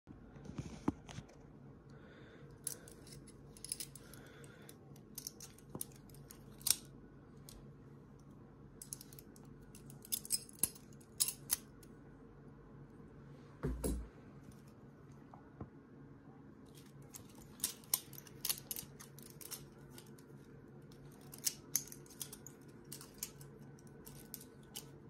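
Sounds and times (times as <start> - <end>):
faint steady hum: 0.1 - 25.0.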